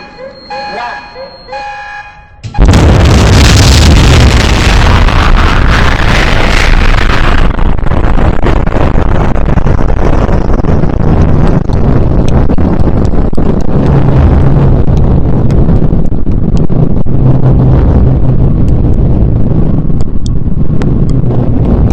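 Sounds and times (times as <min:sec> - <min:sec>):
explosion blast and rumble: 0:02.4 - 0:21.9.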